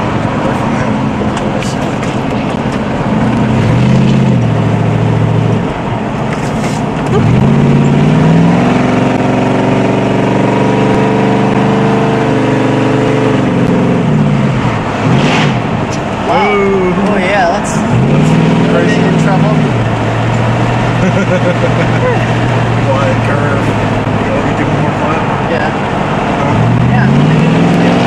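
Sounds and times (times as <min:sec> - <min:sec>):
car engine revving: 0:00.0 - 0:28.0
wind and road noise: 0:00.0 - 0:28.0.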